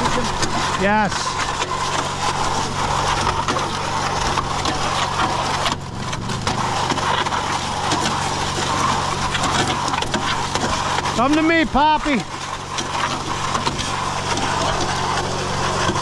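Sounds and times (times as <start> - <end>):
concrete mixer motor hum: 0.0 - 16.0
wet concrete churning in drum: 0.0 - 16.0.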